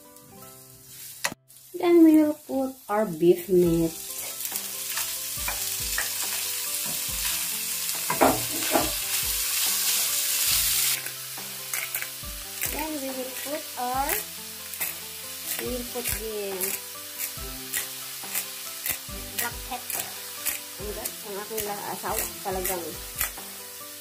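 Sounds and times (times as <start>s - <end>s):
meat sizzling in frying pan: 0.0s - 24.0s.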